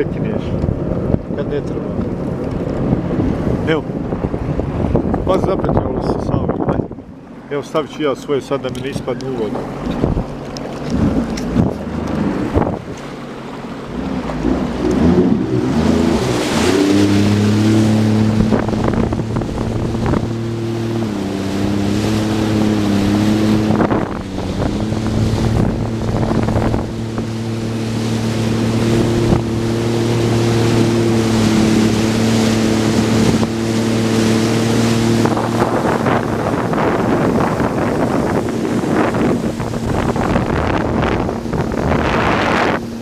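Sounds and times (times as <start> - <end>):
wind buffeting the microphone: 0.0 - 13.2, 14.0 - 43.0
jet ski engine running: 0.0 - 43.0
rushing water: 0.0 - 43.0.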